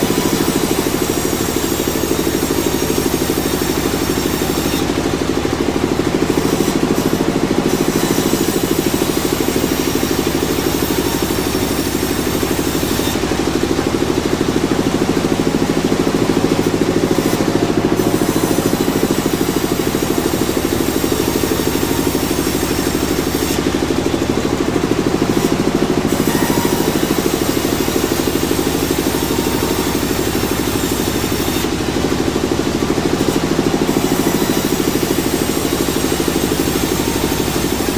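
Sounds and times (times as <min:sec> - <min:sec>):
engine running with pulsing beat: 0:00.0 - 0:37.9.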